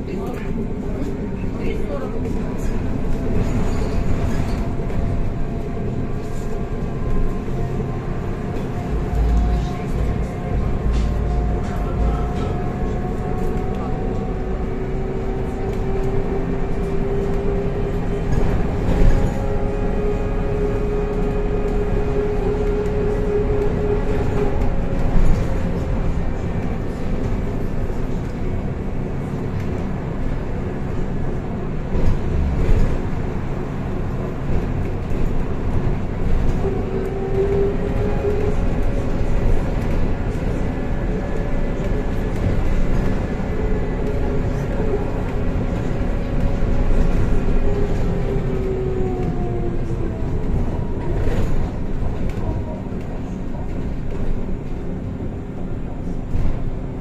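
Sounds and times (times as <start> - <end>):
rumble of wheels and road: 0.0 - 57.0.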